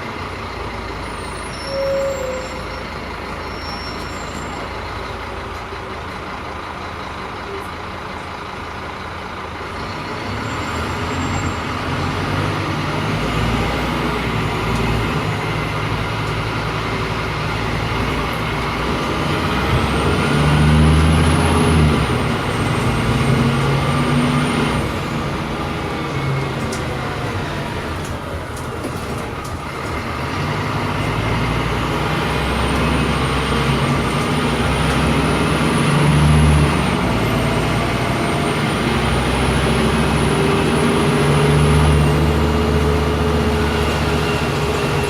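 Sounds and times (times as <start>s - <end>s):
bus diesel engine: 0.0s - 45.0s.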